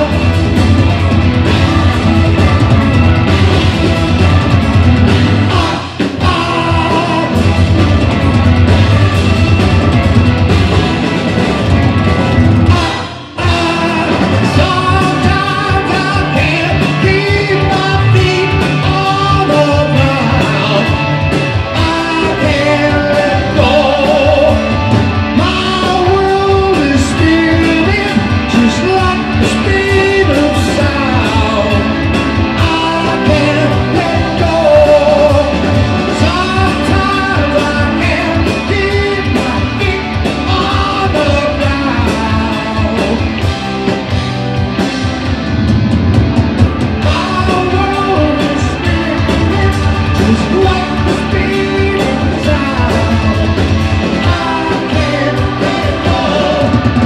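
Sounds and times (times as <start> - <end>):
lead singer singing: 0.0 - 10.0, 12.6 - 44.2, 46.6 - 57.0
drum kit steady beat: 0.0 - 57.0
live rock band playing: 0.0 - 57.0.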